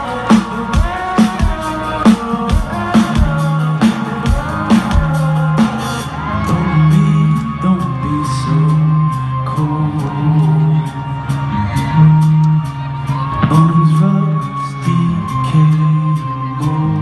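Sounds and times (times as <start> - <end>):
live rock band: 0.0 - 17.0.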